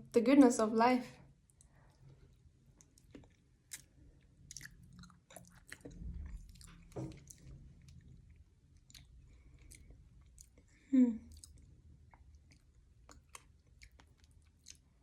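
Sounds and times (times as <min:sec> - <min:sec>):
wet chewing mouth clicks: 0:02.8 - 0:15.0.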